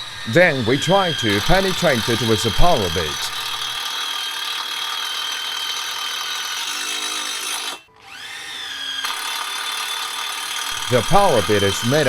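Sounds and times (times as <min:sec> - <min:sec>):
electric drill whining: 0:00.0 - 0:12.0.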